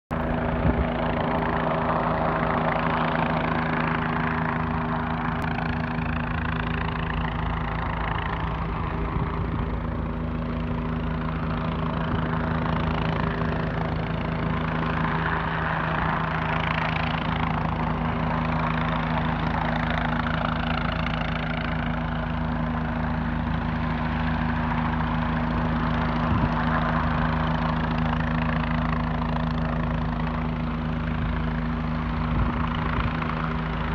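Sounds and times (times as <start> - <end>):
helicopter hovering: 0.1 - 33.9.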